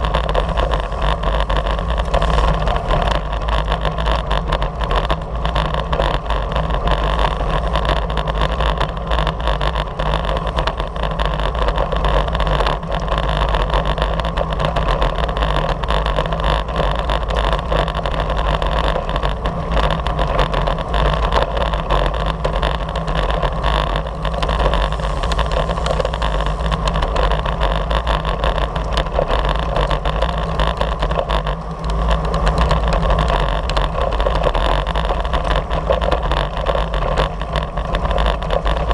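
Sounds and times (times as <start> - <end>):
bike tyres rumbling on asphalt: 0.0 - 38.9
wind rushing over microphone: 0.0 - 38.9.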